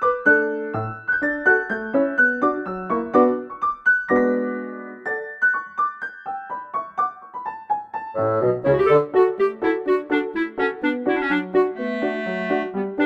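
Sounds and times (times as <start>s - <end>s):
light keyboard melody: 0.0s - 13.0s.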